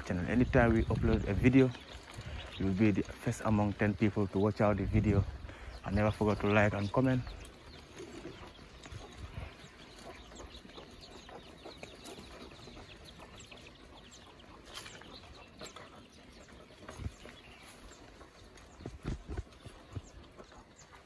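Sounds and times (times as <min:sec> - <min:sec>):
birds chirping: 0:00.0 - 0:21.0
chickens clucking: 0:00.0 - 0:21.0.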